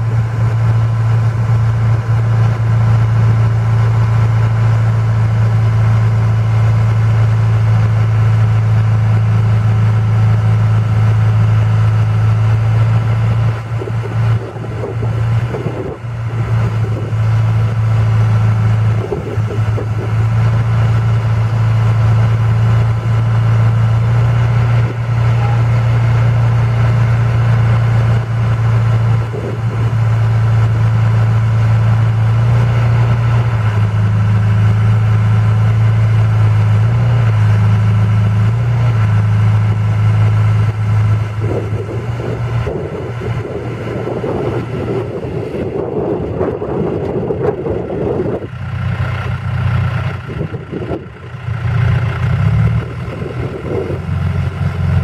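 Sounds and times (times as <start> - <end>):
backhoe diesel engine humming: 0.0 - 55.0.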